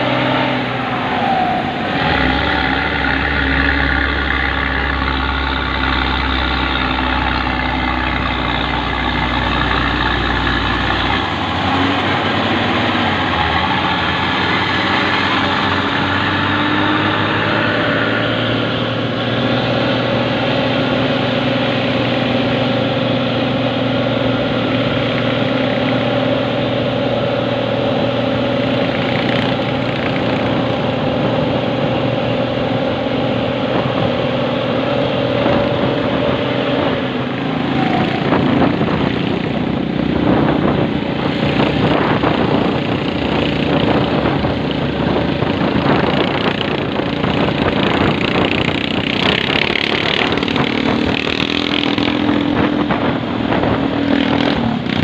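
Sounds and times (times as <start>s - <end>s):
bus diesel engine: 0.0s - 55.0s
deep drone: 0.0s - 55.0s
motorcycle hum: 0.0s - 55.0s
road noise: 0.0s - 55.0s.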